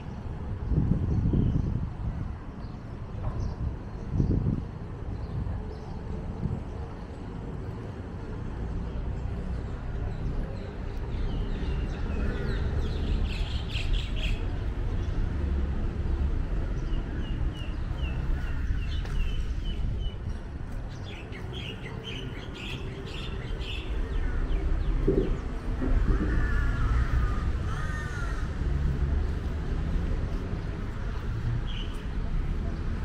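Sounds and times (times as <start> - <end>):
low city rumble: 0.0 - 33.0.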